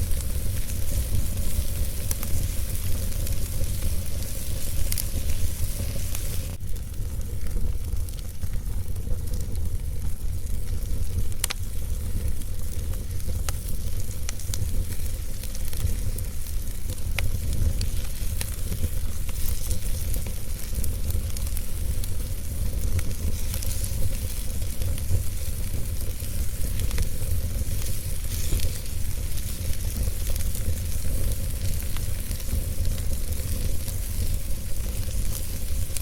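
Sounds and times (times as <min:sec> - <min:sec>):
fire popping and snapping: 0:00.0 - 0:36.0
wood fire crackling: 0:00.0 - 0:36.0.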